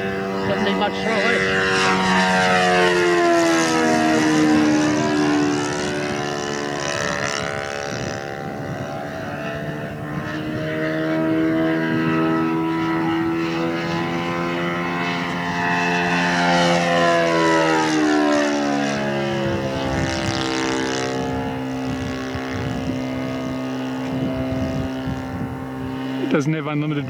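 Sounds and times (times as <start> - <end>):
model aeroplane engine in flight: 0.0 - 27.0.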